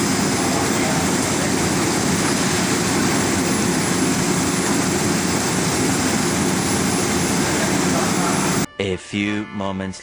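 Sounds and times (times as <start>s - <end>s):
gas burner roaring: 0.0s - 8.7s.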